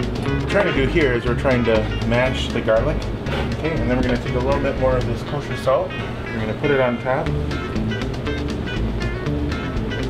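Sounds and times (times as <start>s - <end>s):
background music: 0.0s - 10.0s
low bass line: 0.0s - 10.0s.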